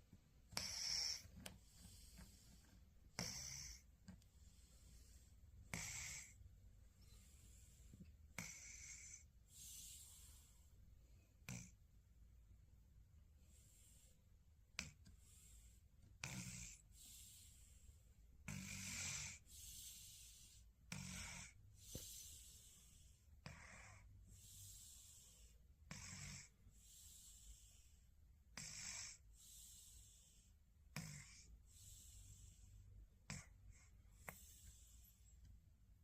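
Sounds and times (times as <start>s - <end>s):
quiet breathing: 0.0s - 36.0s
person snoring softly: 0.5s - 11.8s, 13.4s - 35.4s.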